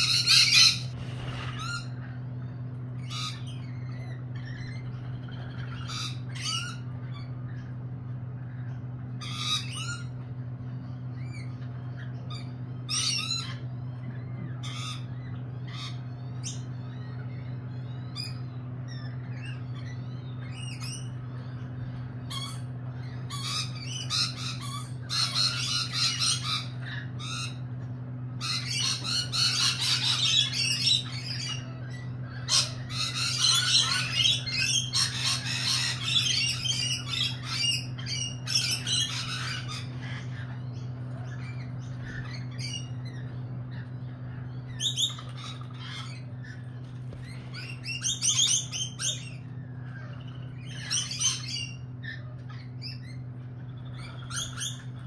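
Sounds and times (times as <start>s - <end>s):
parrots shrill chattering calls: 0.0s - 55.0s
steady low hum: 0.0s - 55.0s.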